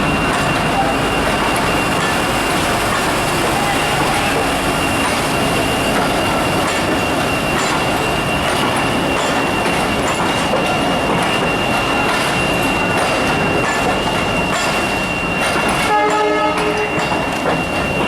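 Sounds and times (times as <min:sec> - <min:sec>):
train rumbling past: 0:00.0 - 0:18.0
train wheel clicks: 0:00.0 - 0:18.0.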